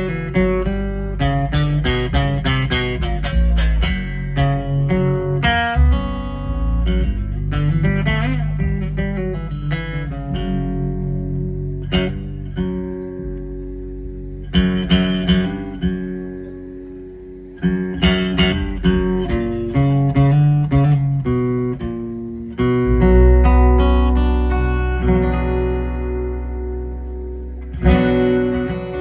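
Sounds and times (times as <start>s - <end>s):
strummed guitar: 0.0s - 29.0s.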